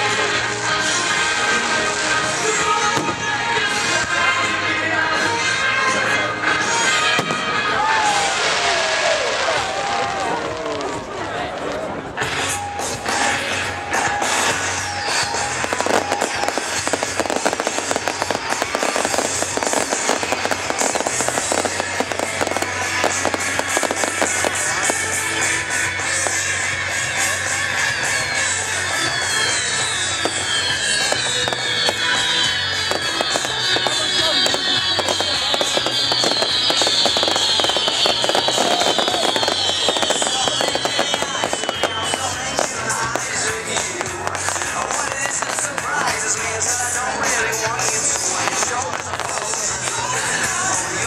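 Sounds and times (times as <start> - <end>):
fireworks crackling and banging: 0.0 - 51.0
music playing: 0.0 - 51.0.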